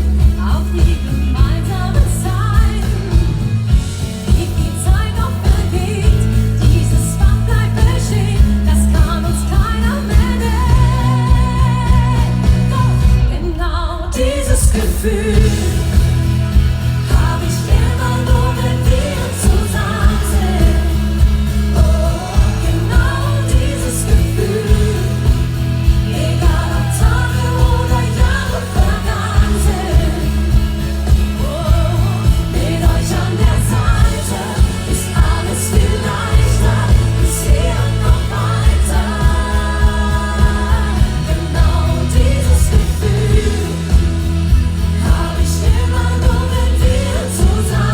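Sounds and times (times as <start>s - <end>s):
live pop band music: 0.0s - 47.9s
person singing: 4.2s - 47.9s.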